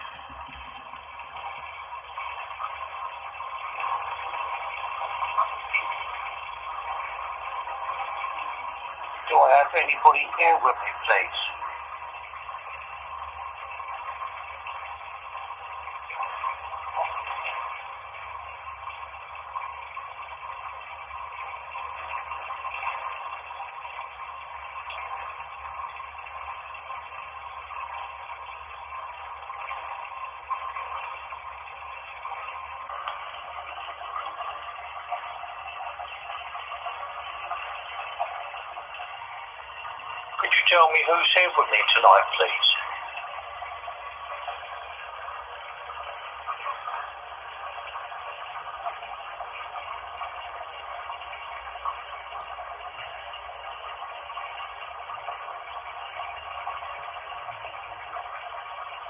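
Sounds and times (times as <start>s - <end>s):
bath water running: 0.0s - 59.0s.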